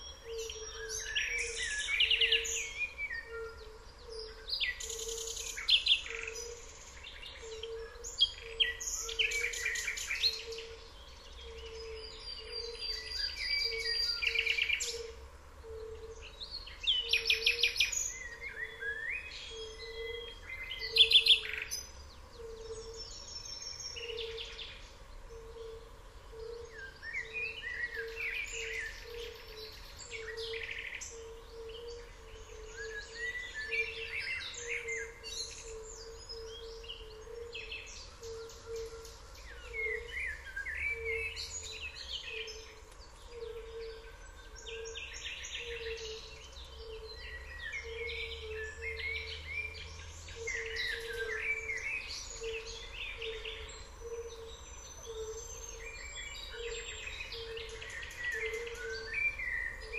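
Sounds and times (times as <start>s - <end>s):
small birds singing and chirping: 0.0s - 59.9s.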